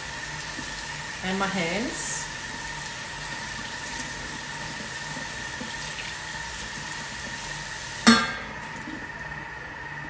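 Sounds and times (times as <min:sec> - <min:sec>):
kitchen tap running: 0:00.0 - 0:09.4.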